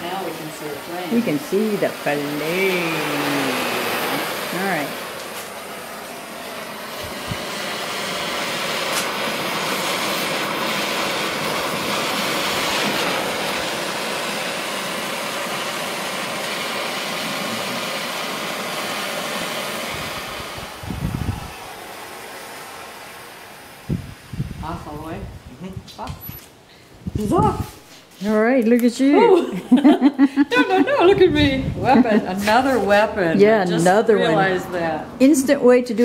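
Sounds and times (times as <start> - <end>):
torch flame hissing: 0.0 - 36.0.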